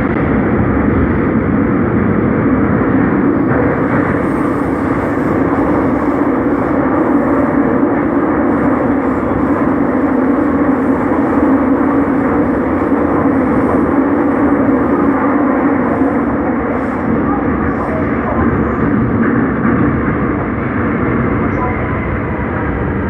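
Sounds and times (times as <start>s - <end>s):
subway train rumbling in tunnel: 0.0s - 23.0s.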